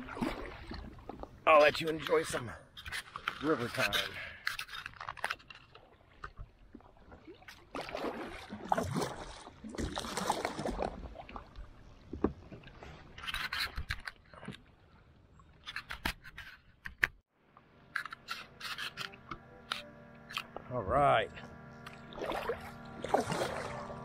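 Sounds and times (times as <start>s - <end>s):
paddle swishing through water: 0.0s - 16.6s, 18.0s - 24.0s.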